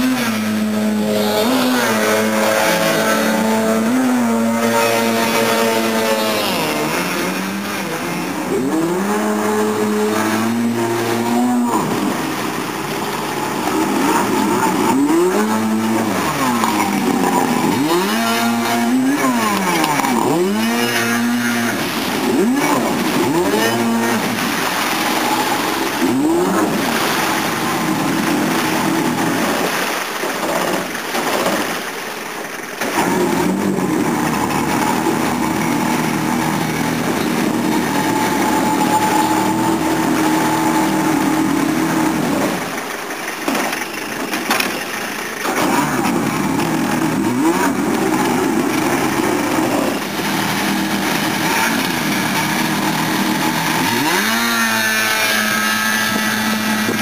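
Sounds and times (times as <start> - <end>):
jet ski engine revving: 0.0 - 57.0.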